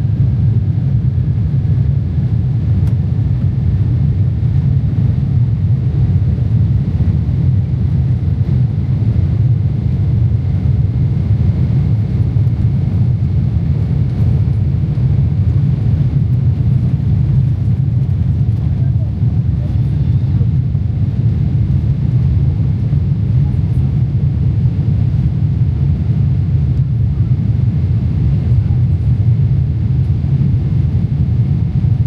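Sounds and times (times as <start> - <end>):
aircraft cabin engine rumble: 0.0 - 32.0.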